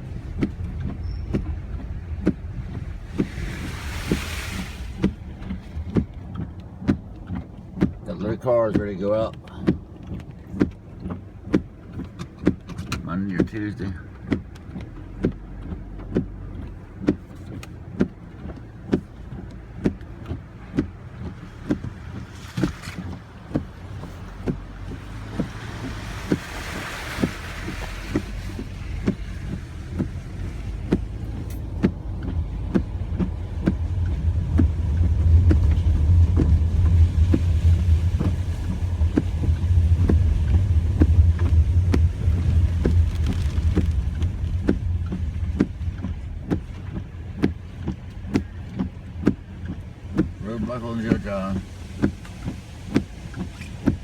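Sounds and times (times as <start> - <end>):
regular ticking: 0.0 - 3.6, 5.0 - 54.0
car engine and road rumble: 0.0 - 54.0.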